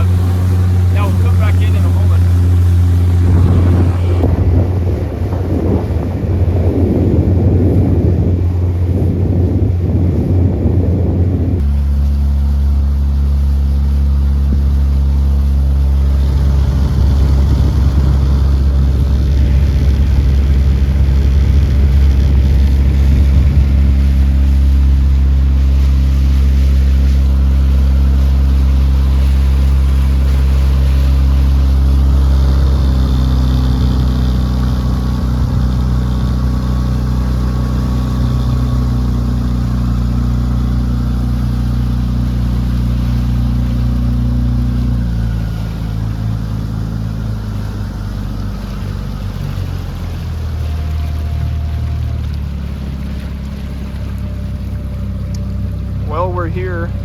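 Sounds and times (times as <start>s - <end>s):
wind noise: 0.0s - 11.7s, 14.4s - 49.8s
motorboat engine running: 0.0s - 57.0s
water noise: 0.0s - 57.0s.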